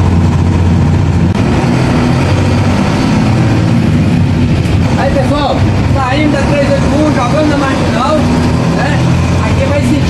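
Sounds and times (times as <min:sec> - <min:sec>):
diesel bus engine drone: 0:00.0 - 0:10.0
road noise: 0:00.0 - 0:10.0.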